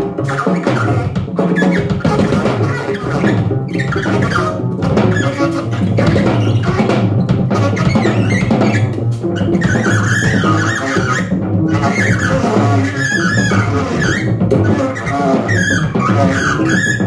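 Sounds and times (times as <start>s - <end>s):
drums played with mallets: 0.0s - 17.0s
saxophone: 0.0s - 17.0s
upright double bass: 0.0s - 17.0s.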